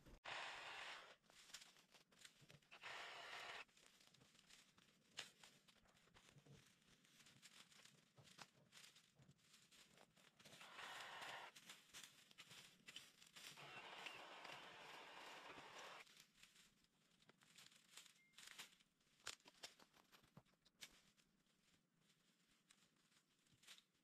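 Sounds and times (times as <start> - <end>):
dry leaves rustling and crackling: 1.2 - 24.0.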